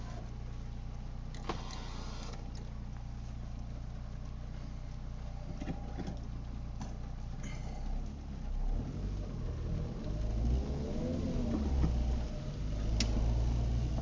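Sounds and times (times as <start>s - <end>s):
car engine and road hum: 0.0s - 14.0s.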